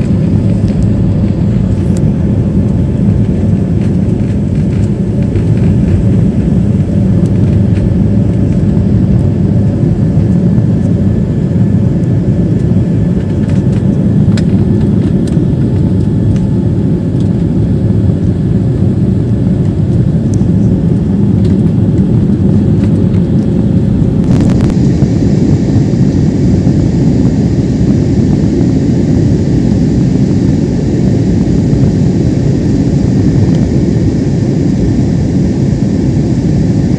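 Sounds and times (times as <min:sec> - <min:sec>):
faint steady hum: 0:00.0 - 0:36.9
jet engine rumble in cabin: 0:00.0 - 0:36.9.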